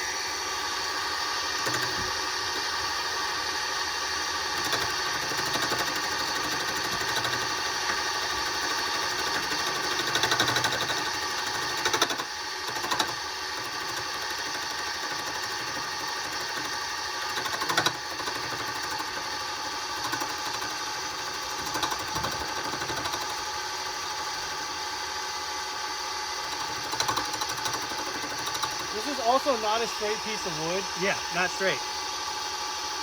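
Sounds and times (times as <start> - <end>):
wood lathe running: 0.0 - 32.2.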